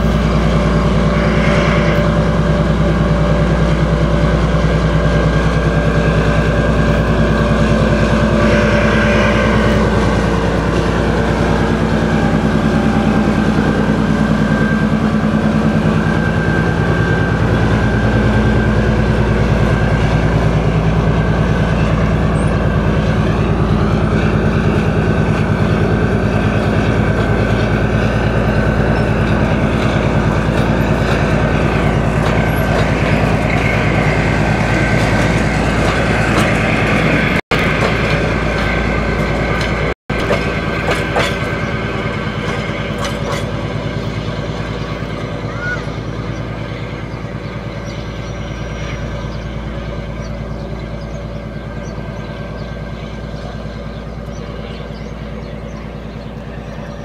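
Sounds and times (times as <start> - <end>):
diesel train engine running: 0.0 - 57.0
wheels rolling on rails: 0.0 - 57.0.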